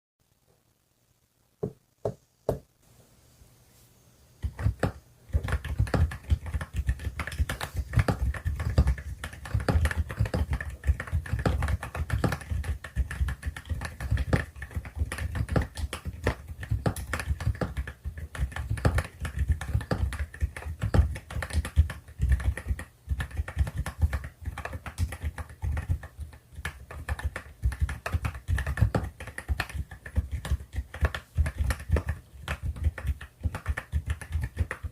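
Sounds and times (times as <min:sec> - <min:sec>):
mechanical keyboard typing: 0:04.4 - 0:34.9.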